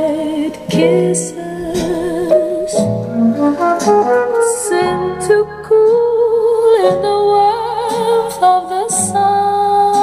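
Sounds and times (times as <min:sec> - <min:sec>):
slow ballad over speakers: 0:00.0 - 0:10.0.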